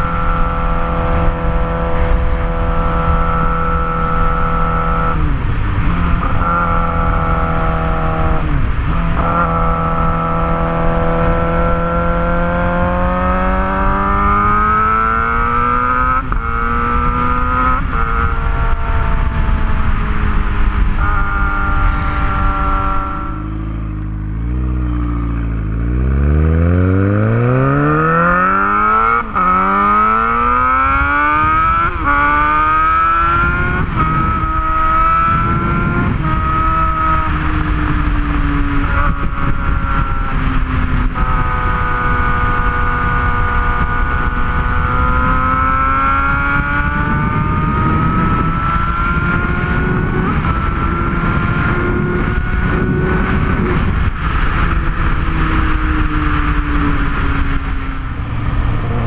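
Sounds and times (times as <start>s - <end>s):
motorcycle exhaust accelerating: 0.0s - 59.0s.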